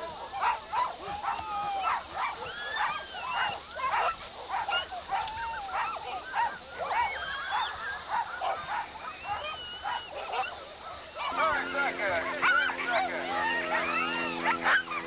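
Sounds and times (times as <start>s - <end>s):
sled dogs barking and yelping: 0.0s - 15.0s.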